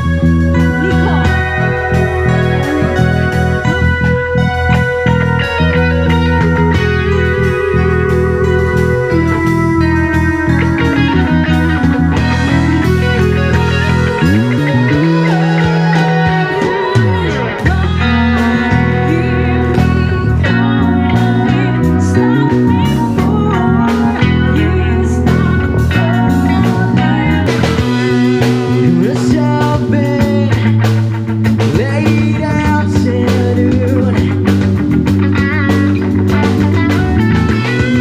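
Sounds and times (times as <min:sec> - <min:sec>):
bass line: 0:00.0 - 0:38.0
drums: 0:00.0 - 0:38.0
electric guitar with bent notes: 0:00.0 - 0:38.0.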